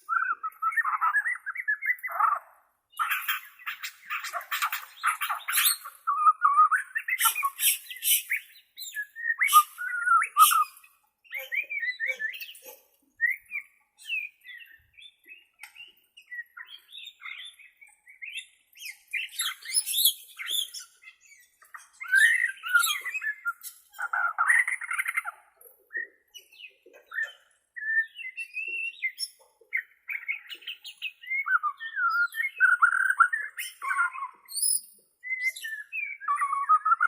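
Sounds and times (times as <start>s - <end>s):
songbird singing whistled phrases: 0.0s - 37.0s.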